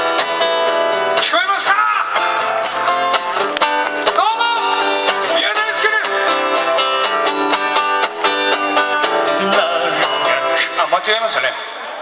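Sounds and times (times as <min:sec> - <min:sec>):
strummed acoustic guitar: 0:00.0 - 0:10.8.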